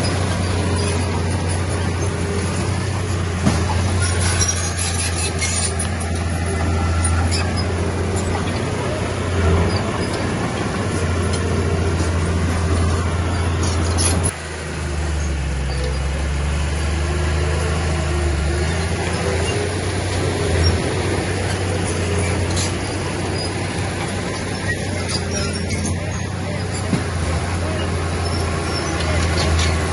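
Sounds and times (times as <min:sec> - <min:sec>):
heavy diesel machine engine running: 0:00.0 - 0:29.9.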